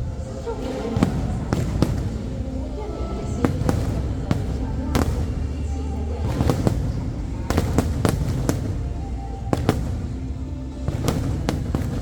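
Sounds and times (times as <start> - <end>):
fireworks bursting: 0.0 - 12.0
low rumble: 0.0 - 12.0.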